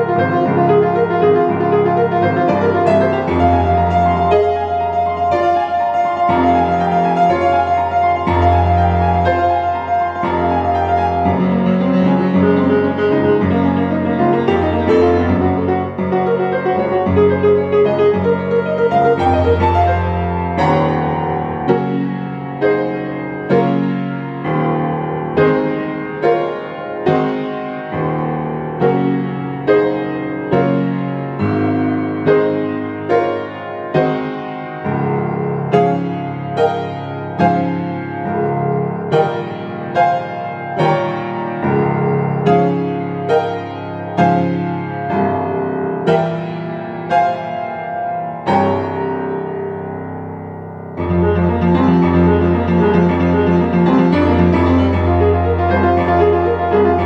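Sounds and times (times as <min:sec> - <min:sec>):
fast piano playing: 0:00.0 - 0:57.0.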